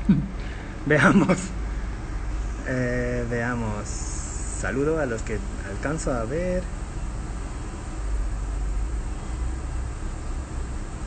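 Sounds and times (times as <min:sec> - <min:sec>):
even hiss: 0:00.0 - 0:10.8.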